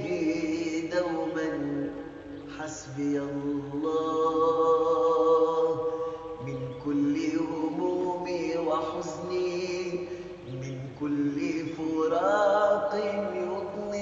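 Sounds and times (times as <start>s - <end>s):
chanted vocal long notes: 0.0s - 14.0s.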